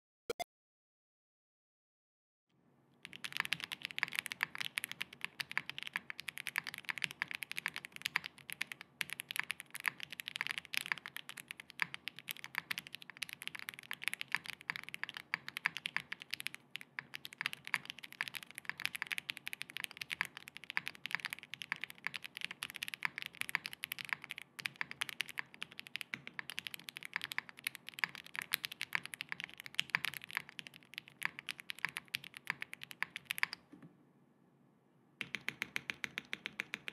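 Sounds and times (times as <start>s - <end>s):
fast mechanical keyboard typing: 3.0s - 33.6s, 35.2s - 36.9s.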